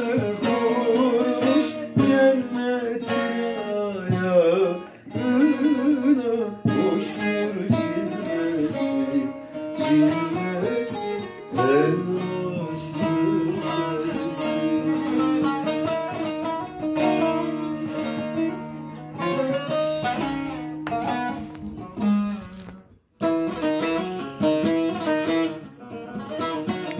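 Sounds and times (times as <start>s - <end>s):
plucked lutes playing folk music: 0.0s - 26.9s.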